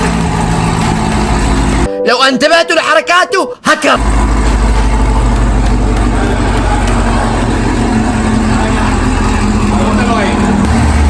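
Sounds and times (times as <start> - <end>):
car engine running steadily: 0.0 - 1.9, 4.0 - 11.0.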